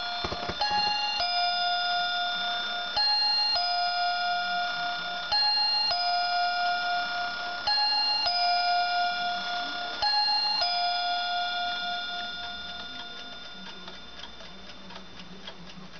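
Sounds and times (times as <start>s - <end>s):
two-note clock chime: 0.0s - 15.2s
clock ticking: 0.0s - 15.9s.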